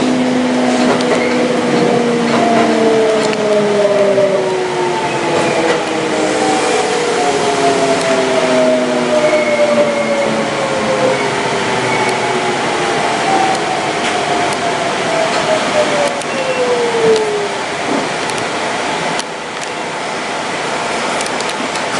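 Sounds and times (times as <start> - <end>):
train motors whining: 0.0 - 19.8.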